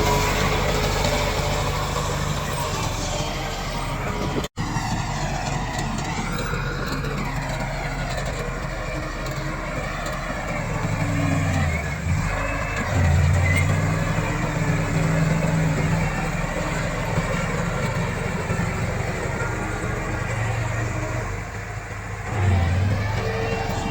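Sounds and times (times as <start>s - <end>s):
bulldozer diesel engine running: 0.0s - 23.9s.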